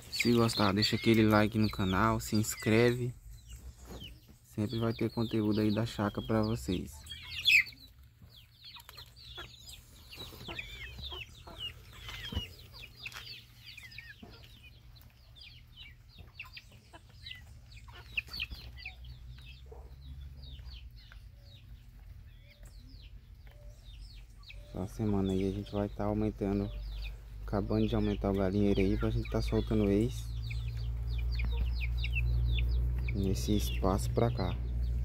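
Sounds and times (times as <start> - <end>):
chicks peeping and chirping: 0.0 - 35.0.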